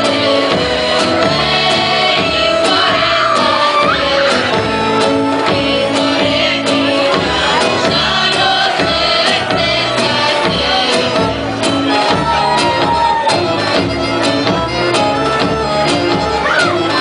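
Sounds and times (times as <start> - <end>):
folk dance melody: 0.0 - 17.0.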